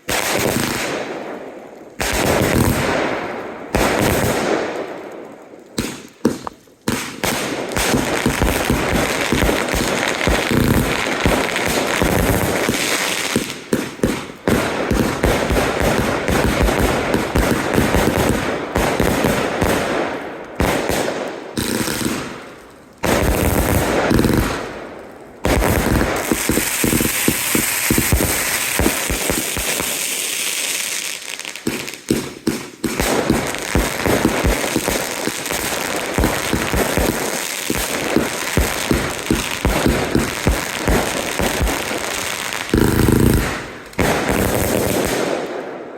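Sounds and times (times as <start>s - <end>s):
fireworks bangs and crackle: 0.0s - 45.9s.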